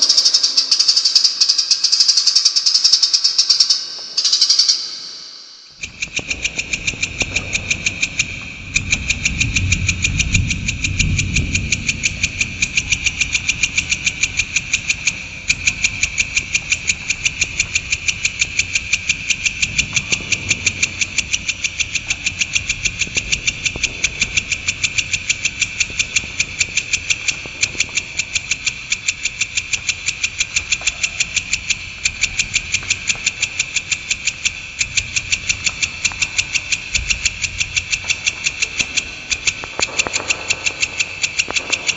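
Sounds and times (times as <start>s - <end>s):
shrike rolling chatter: 0.0s - 41.9s.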